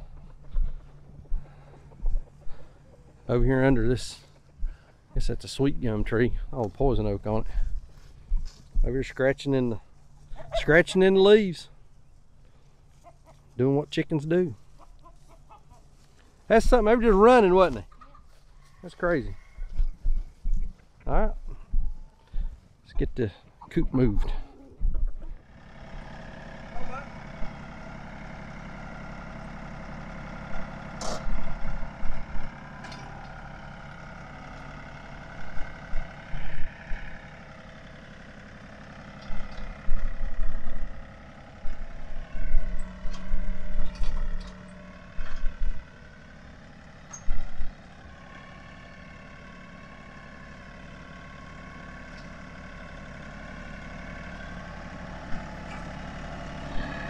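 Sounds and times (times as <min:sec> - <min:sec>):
diesel tractor running: 0:00.0 - 0:57.0.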